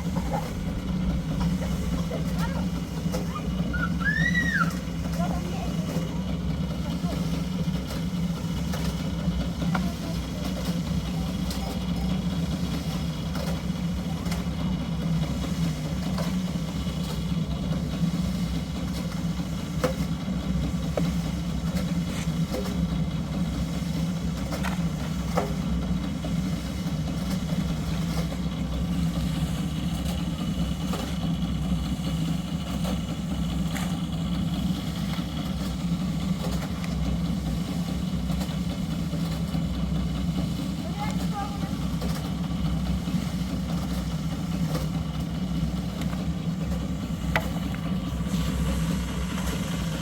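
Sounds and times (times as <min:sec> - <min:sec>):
engine idling: 0:00.0 - 0:50.0.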